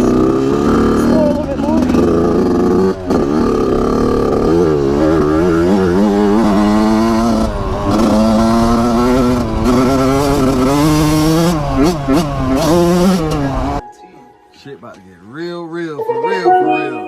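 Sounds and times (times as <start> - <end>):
dirt bike engine revving: 0.0 - 13.8.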